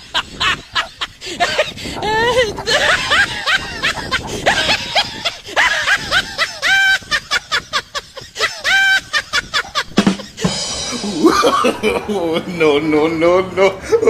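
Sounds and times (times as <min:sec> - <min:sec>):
high-pitched laughter: 0:00.0 - 0:12.5.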